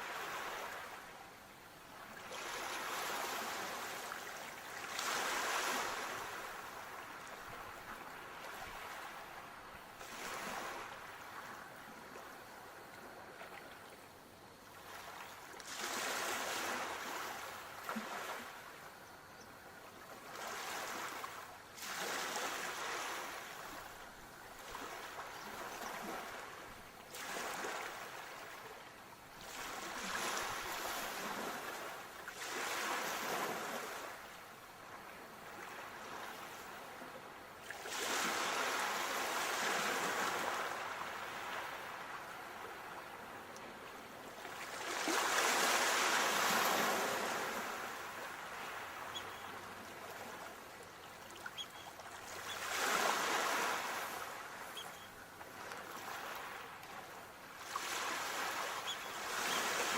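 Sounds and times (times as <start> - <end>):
waves breaking and washing in: 0.0 - 59.9.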